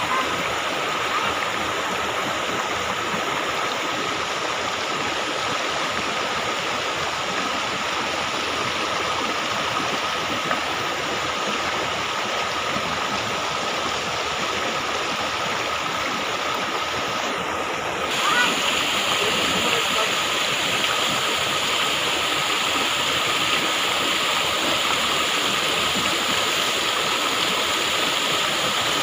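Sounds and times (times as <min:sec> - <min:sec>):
rocky stream running: 0:00.0 - 0:29.0.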